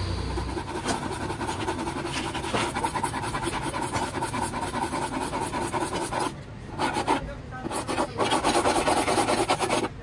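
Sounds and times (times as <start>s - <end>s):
abrasive tool scraping plastic: 0.6s - 10.0s.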